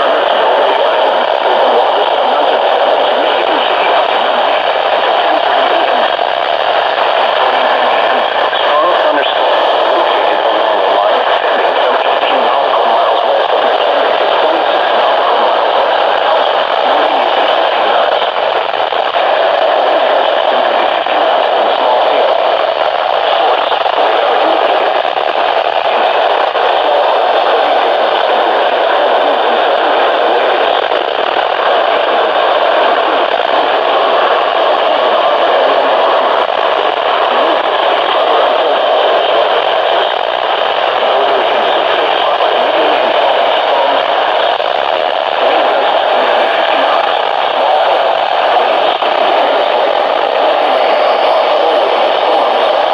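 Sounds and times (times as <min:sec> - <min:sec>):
radio static hiss: 0:00.0 - 0:52.9.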